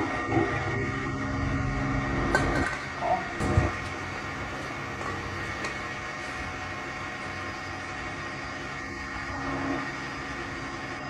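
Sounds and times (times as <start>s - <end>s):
machine humming and whirring: 0.0s - 11.0s.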